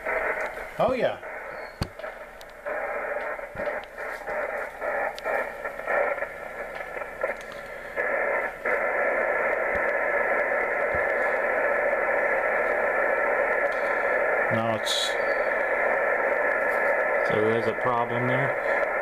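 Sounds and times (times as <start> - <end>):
radio receiver hiss: 0.0 - 19.0.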